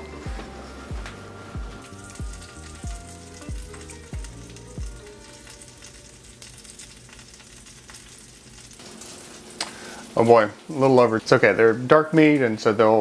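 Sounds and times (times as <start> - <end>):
meat and potatoes sizzling: 0.0 - 13.0.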